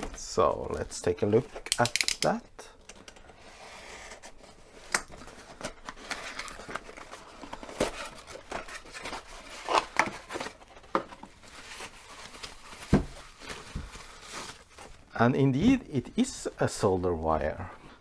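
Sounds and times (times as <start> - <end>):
packaging crinkling and tearing: 0.0 - 15.2.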